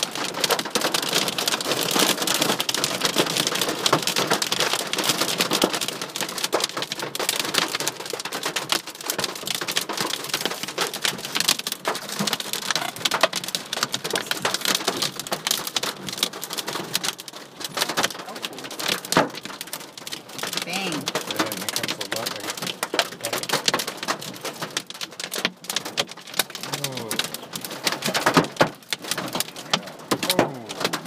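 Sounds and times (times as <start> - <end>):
hail pounding a car: 0.0 - 31.0.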